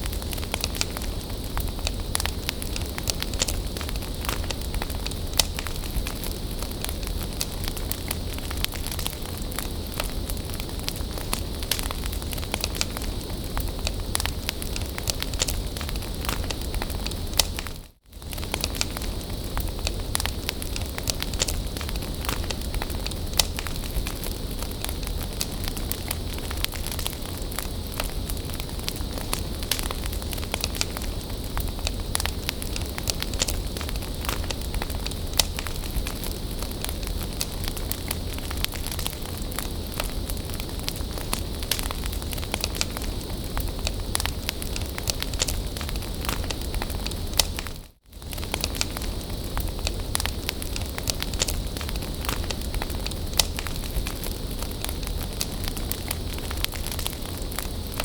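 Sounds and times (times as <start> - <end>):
bonfire crackling and popping: 0.0 - 58.0.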